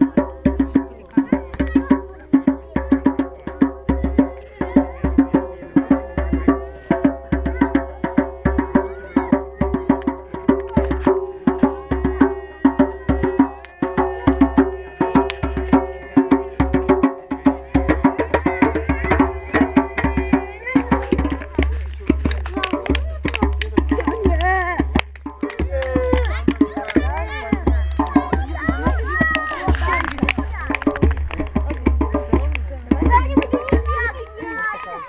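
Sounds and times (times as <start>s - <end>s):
wooden percussion beat: 0.0s - 35.0s.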